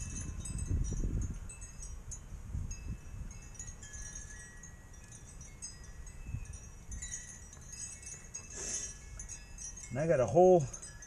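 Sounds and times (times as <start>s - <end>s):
high metallic chimes ringing: 0.0s - 11.0s.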